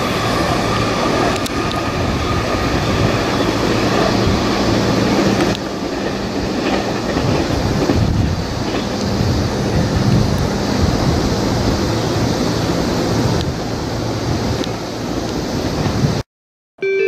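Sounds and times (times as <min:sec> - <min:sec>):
electric train passing: 0:00.0 - 0:16.2.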